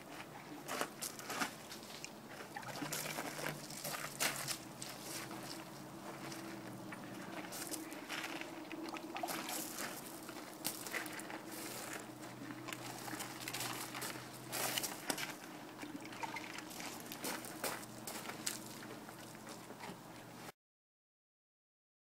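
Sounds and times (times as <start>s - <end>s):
faint steady hum: 0.0s - 20.5s
boots shifting on gravel: 0.7s - 15.6s, 16.6s - 19.8s.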